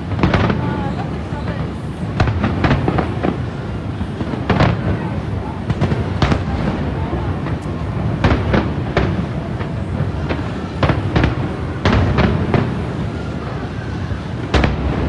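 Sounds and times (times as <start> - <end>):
firework shells booming: 0.0 - 15.0.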